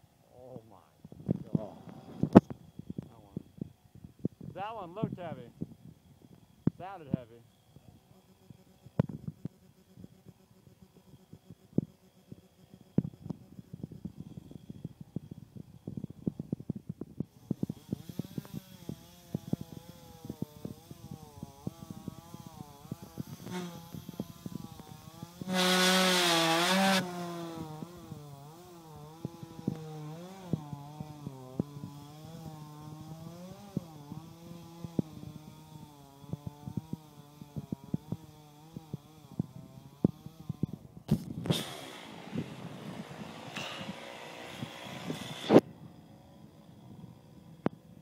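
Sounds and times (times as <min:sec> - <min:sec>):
chainsaw running: 0:06.2 - 0:48.0.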